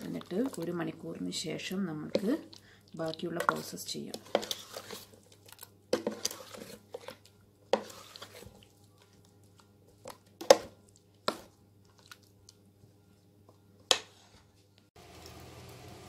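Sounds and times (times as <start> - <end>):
wet squelching of mixing: 0.0 - 13.8.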